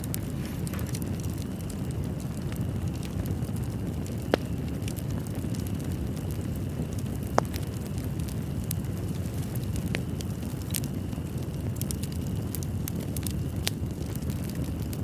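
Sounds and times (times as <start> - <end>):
fire crackling: 0.0 - 15.0
fire rumbling: 0.0 - 15.0
sharp pops of burning wood: 0.0 - 15.0.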